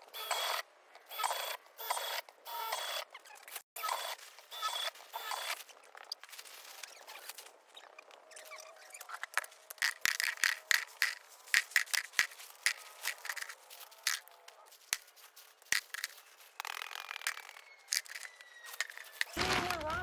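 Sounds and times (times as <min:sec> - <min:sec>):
scrapes and sharp clicks: 0:00.2 - 0:19.7.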